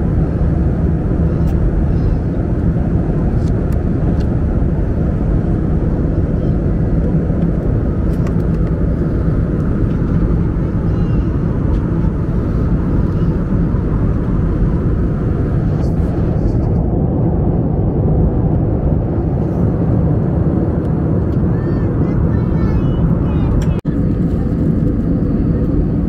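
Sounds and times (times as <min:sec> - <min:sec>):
aircraft cabin drone: 0:00.0 - 0:26.0.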